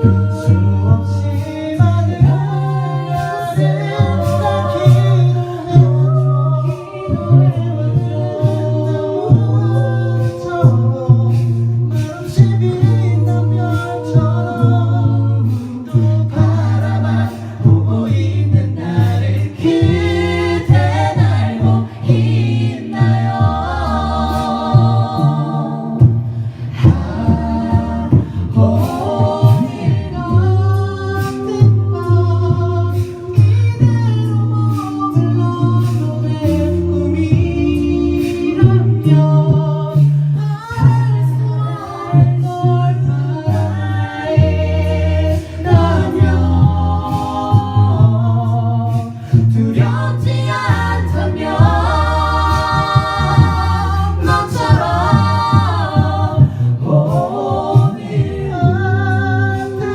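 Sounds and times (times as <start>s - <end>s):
a cappella group singing in harmony: 0.0s - 59.9s.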